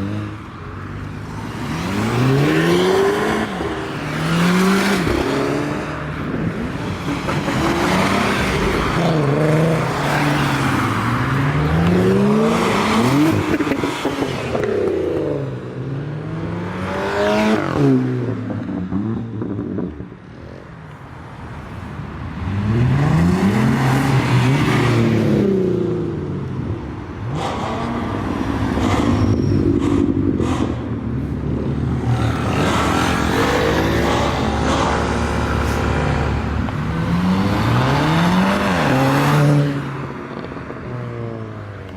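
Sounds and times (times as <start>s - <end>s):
cars accelerating and revving: 0.0s - 41.9s.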